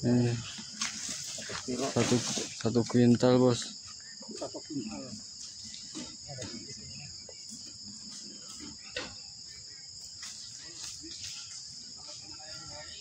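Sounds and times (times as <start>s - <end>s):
insects chirping chorus: 0.0s - 13.0s.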